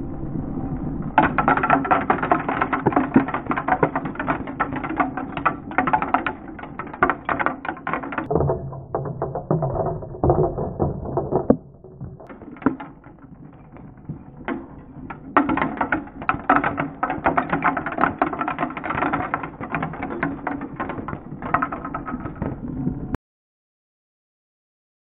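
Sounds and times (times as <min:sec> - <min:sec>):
plastic bricks clattering: 0:01.2 - 0:23.0.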